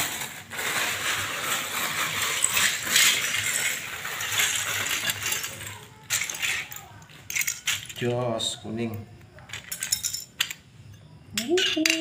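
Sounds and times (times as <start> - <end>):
plastic bricks clattering on floor: 0.0 - 10.7, 11.4 - 12.0.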